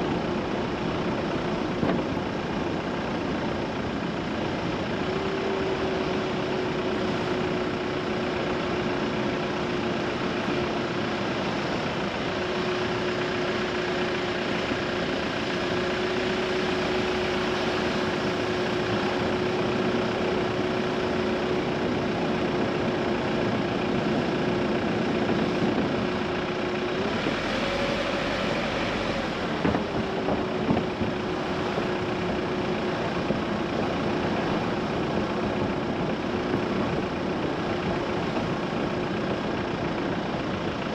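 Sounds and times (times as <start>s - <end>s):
car engine hum: 0.0s - 40.9s
road and tyre noise: 0.0s - 40.9s.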